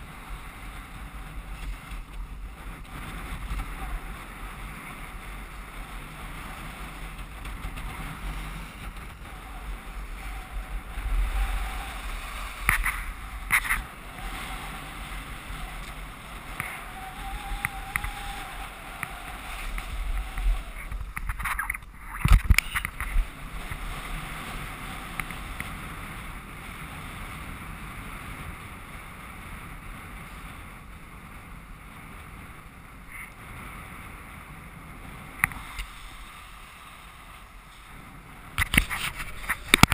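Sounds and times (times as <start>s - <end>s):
skis carving over snow: 0.0s - 39.9s
wind buffeting microphone: 0.0s - 39.9s.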